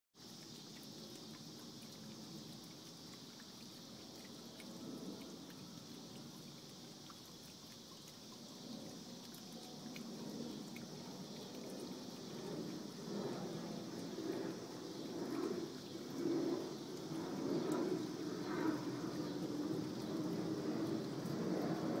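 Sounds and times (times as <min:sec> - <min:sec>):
fountain bubbling and trickling: 0:00.2 - 0:22.0
steady high hiss: 0:00.2 - 0:22.0
water drips: 0:00.2 - 0:22.0.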